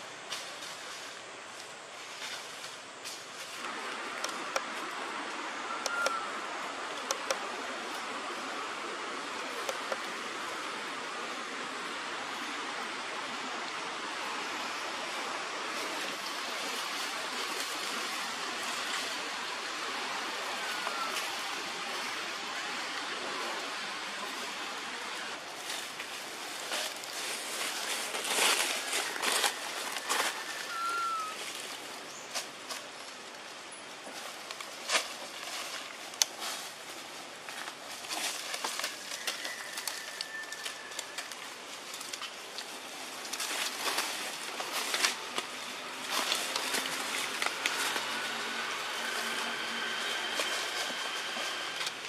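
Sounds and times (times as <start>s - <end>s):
forest ambience: 0.0s - 52.0s
dry leaves crackling and rustling: 0.2s - 52.0s.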